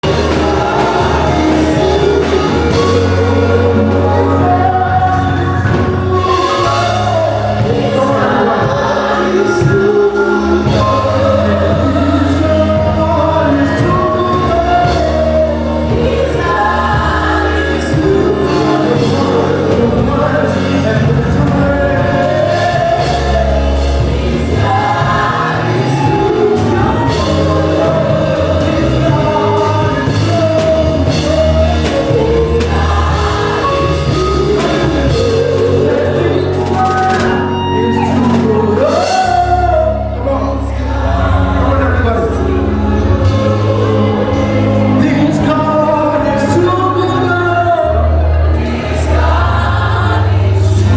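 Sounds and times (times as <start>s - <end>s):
gospel choir singing: 0.0s - 50.9s
instrumental backing with bass: 0.0s - 50.9s.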